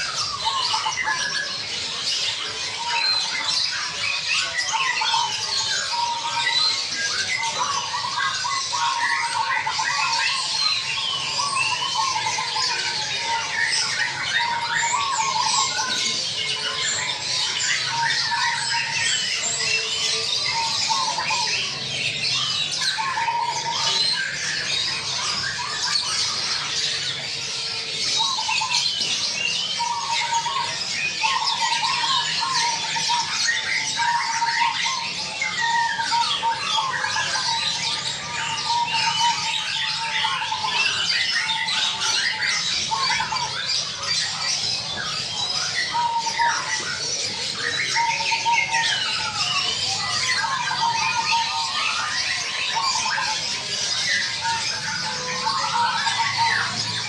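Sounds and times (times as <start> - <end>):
birds chirping and squawking: 0.0 - 57.0
dove cooing: 0.0 - 57.0.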